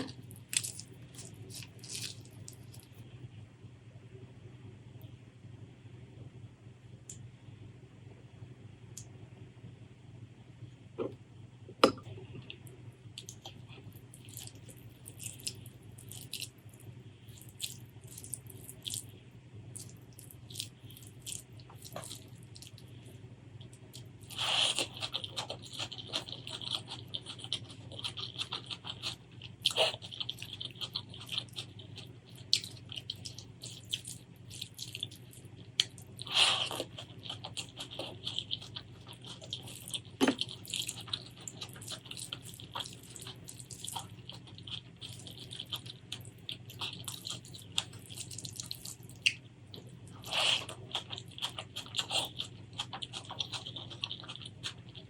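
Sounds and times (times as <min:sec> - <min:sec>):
crunchy chewing: 0:00.0 - 0:03.0, 0:12.4 - 0:55.0.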